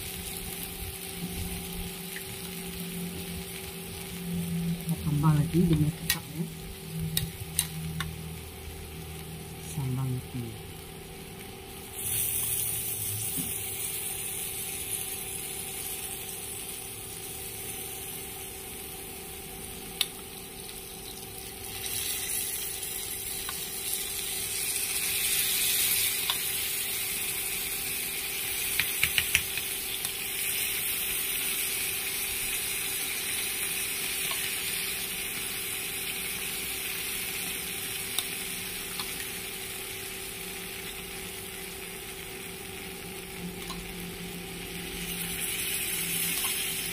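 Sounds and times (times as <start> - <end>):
sauce sizzling on hot pan: 0.0 - 46.9.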